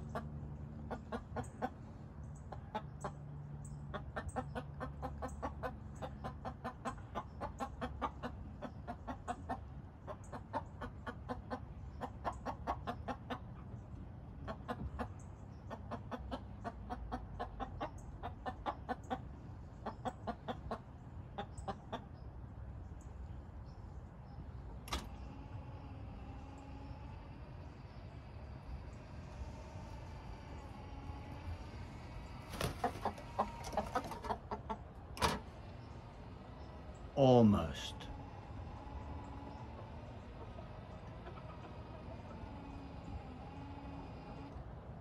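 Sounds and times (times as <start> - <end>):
hens clucking: 0.0 - 22.4, 24.2 - 44.6.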